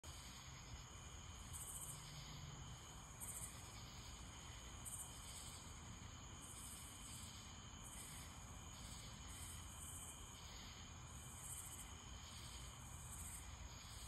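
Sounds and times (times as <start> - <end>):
crickets trilling: 0.0 - 14.0
high buzzing insect call: 0.1 - 14.0.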